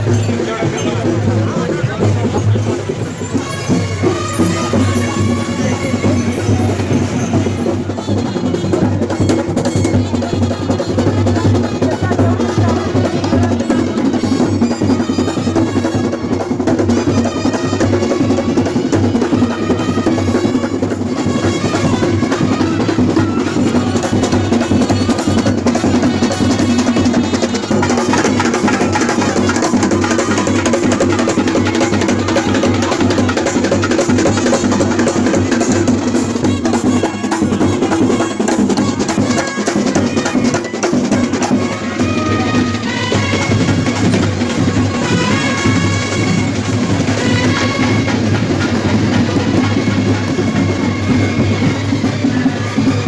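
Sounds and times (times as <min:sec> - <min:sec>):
many drums playing steady rhythm: 0:00.0 - 0:53.0.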